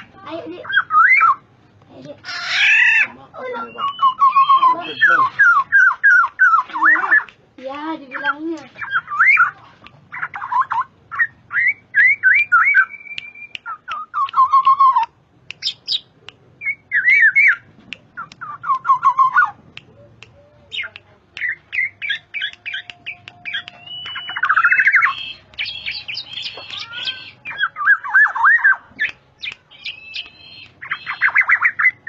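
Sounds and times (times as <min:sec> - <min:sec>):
bird calling: 0:02.2 - 0:07.4, 0:08.0 - 0:32.0.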